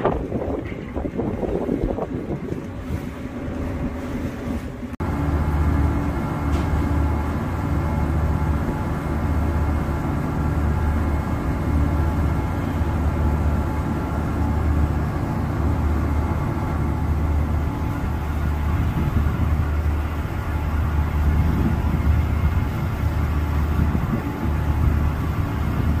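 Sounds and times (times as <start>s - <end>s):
ferry engines droning: 0.0s - 26.0s.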